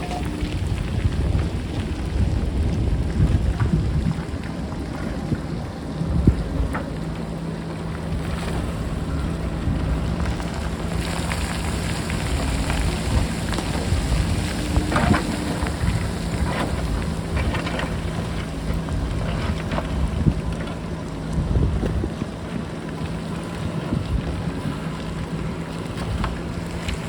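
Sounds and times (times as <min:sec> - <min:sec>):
diesel engine running: 0:00.0 - 0:27.0
wind buffeting microphone: 0:00.0 - 0:27.0.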